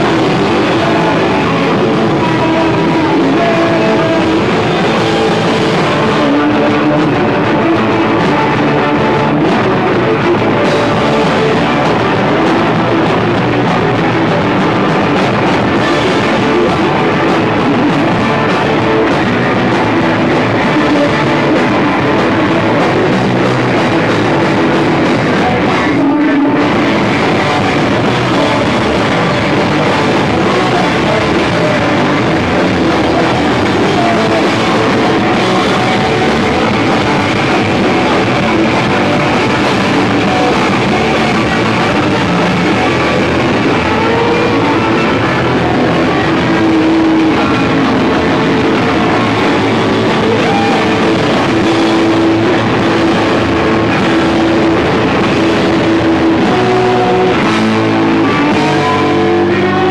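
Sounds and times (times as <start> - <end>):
loud electric guitar: 0.0 - 59.9
punk rock band playing live: 0.0 - 59.9.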